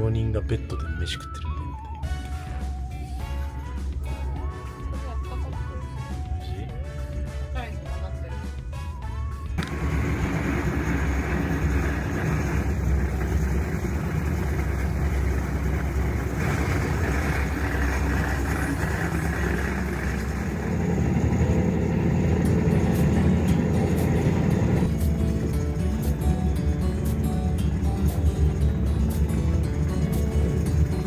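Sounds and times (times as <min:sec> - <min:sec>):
train carriage rumble: 0:01.7 - 0:31.0.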